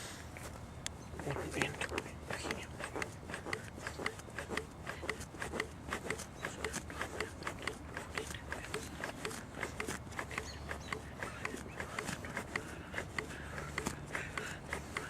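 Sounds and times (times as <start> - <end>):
chest compressions rubbing: 1.1 - 15.0.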